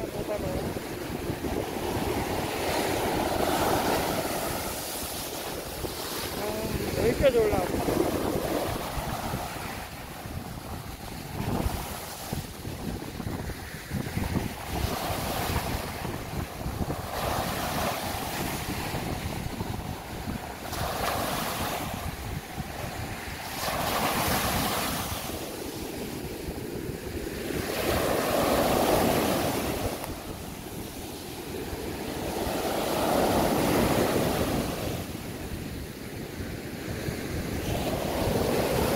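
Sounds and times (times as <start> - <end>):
sea surf breaking on beach: 0.0 - 38.9
wind rumble on microphone: 0.0 - 38.9.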